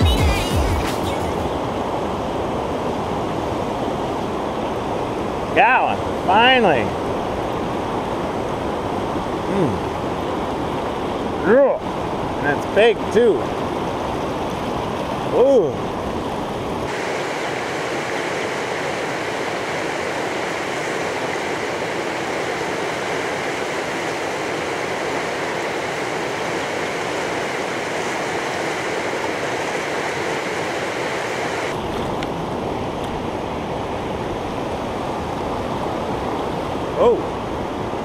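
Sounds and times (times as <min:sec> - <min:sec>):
river rapids rushing over rocks: 0:00.0 - 0:38.0.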